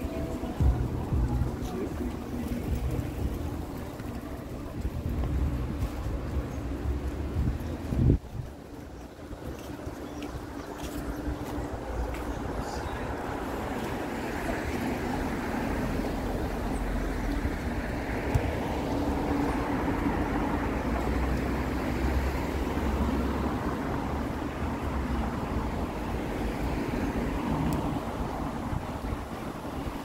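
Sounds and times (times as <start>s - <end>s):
road traffic engine hum: 0.0s - 30.0s.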